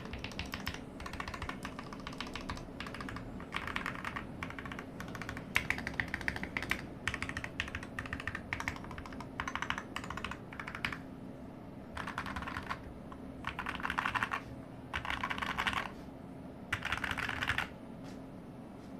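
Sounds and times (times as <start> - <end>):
keyboard typing: 0.0 - 11.0, 11.9 - 16.0, 16.7 - 17.8.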